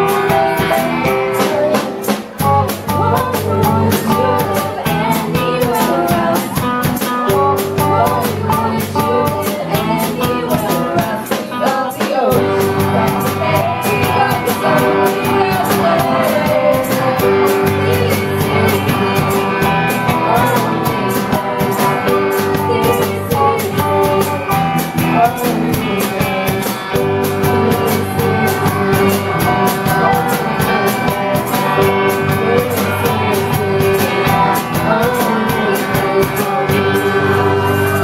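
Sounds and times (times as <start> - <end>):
person singing: 0.0 - 38.0
rock band playing live: 0.0 - 38.0.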